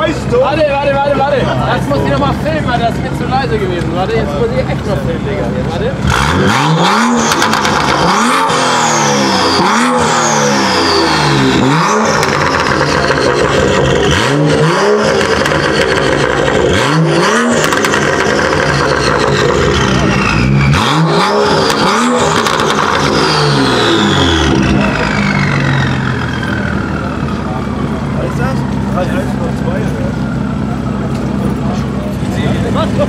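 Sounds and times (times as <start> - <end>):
car engine revving: 0.0 - 33.0
exhaust cracks: 1.8 - 33.0.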